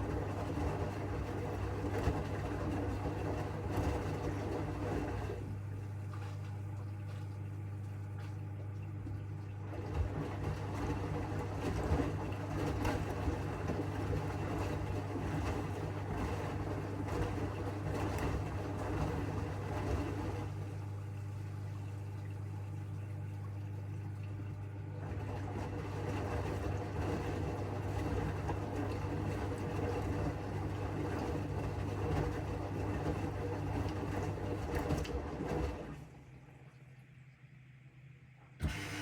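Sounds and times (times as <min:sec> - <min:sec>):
washing machine drum churning: 0:00.0 - 0:21.0, 0:22.4 - 0:36.7, 0:38.6 - 0:39.0
washing machine motor hum: 0:00.0 - 0:39.0.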